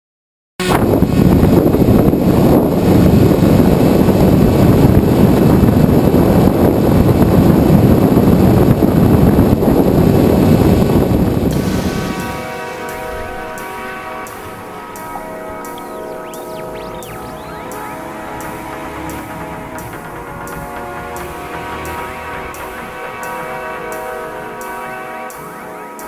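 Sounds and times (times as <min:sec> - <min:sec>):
wind rushing over camera: 0:00.7 - 0:24.0.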